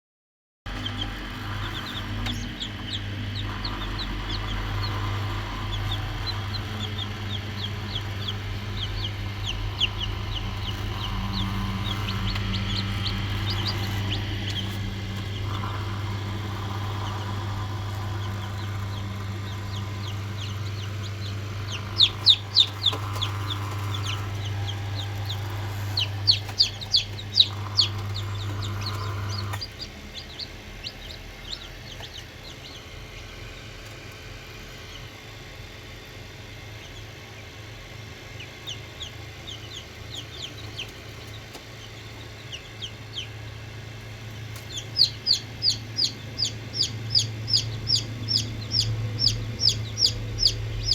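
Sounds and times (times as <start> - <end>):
chickens calling: 0.7 - 35.2, 38.3 - 50.9
steady low hum: 0.7 - 50.9.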